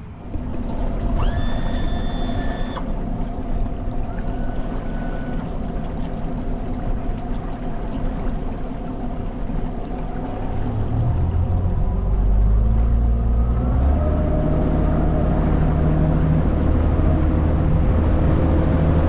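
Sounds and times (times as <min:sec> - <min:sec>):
outboard motor drone: 0:00.0 - 0:19.0
rushing water: 0:00.0 - 0:19.0.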